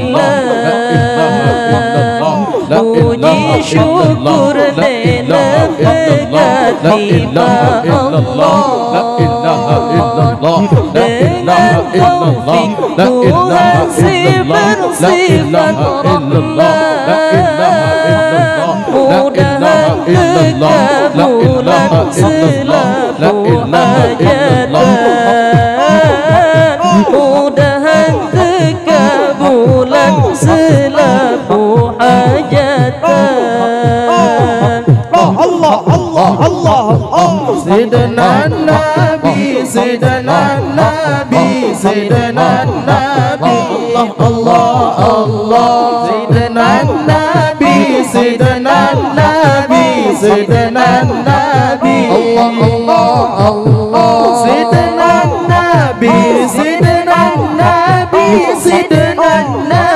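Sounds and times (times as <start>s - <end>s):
solo voice chanting melismatically: 0.0s - 59.9s.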